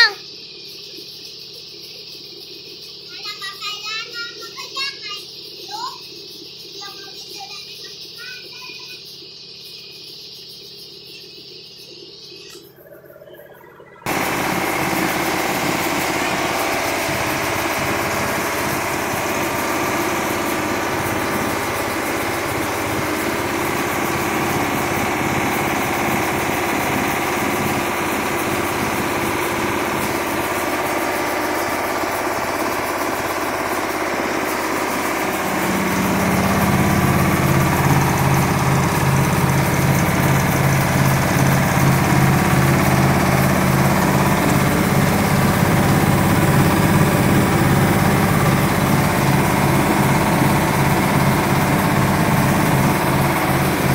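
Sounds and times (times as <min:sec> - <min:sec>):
milling machinery running: 0:09.1 - 0:53.9.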